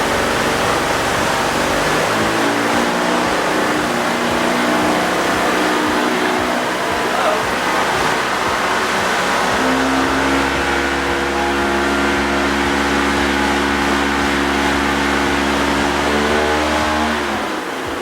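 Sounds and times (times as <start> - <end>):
drone motor and propeller hum: 0.0 - 18.0.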